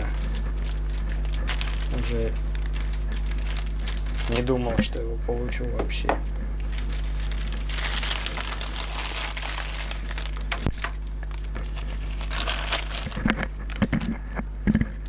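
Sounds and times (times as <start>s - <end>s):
plastic packaging crinkling: 0.0s - 14.4s
steady low hum: 0.0s - 15.0s.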